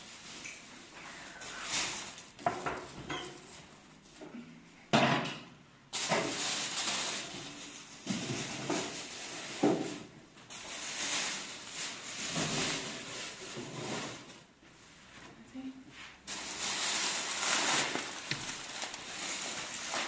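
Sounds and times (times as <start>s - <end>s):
plastic bags rustling and crinkling: 0.0s - 4.2s, 5.9s - 20.0s.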